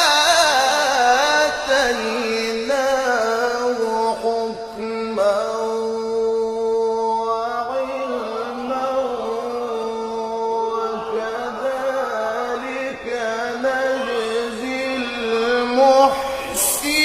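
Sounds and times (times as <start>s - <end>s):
solo voice chanting: 0.0s - 17.0s.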